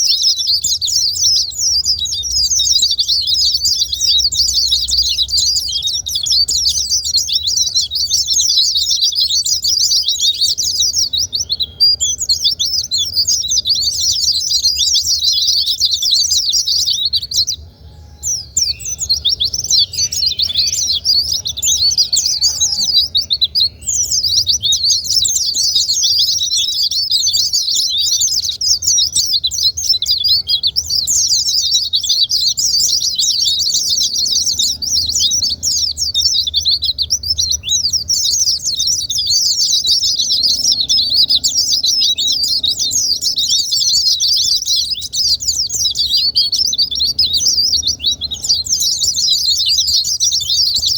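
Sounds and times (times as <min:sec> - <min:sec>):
bird twittering warble: 0:00.0 - 0:50.9.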